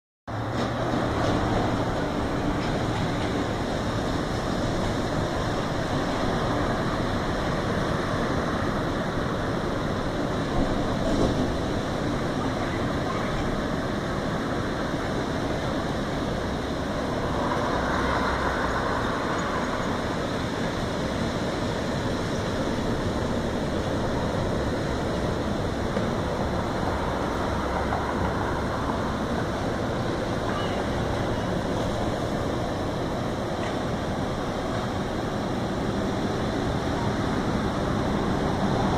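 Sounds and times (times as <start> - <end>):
ocean surf breaking: 0.3 - 38.9
road traffic passing: 0.3 - 38.9.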